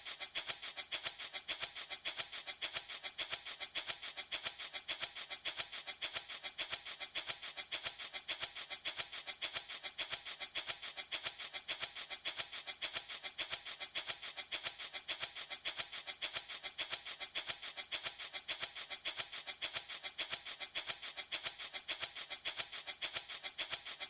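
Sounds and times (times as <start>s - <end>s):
baby rattle shaking: 0.0s - 24.0s.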